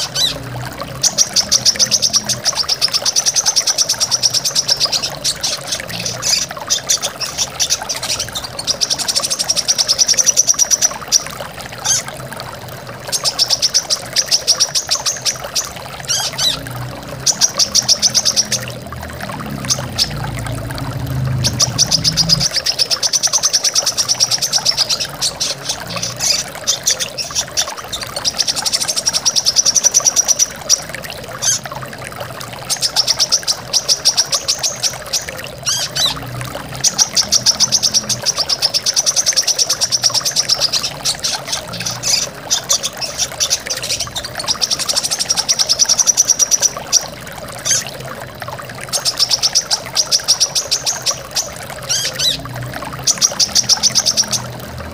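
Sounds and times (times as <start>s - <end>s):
rushing stream: 0.0s - 54.9s.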